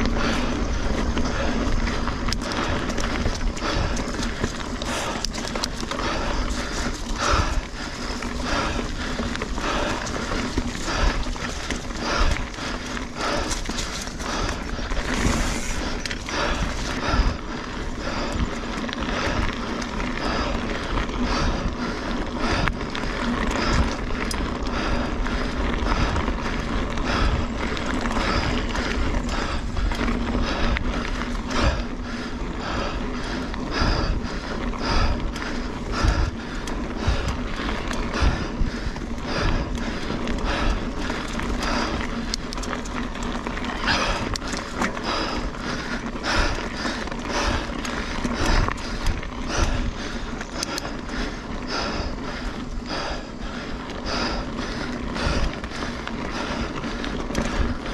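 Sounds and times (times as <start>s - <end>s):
tyres rolling on dirt trail: 0.0s - 57.9s.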